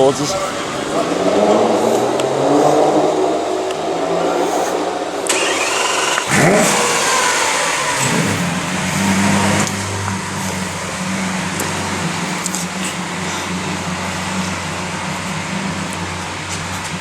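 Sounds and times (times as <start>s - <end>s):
car engine accelerating past: 0.0s - 17.0s.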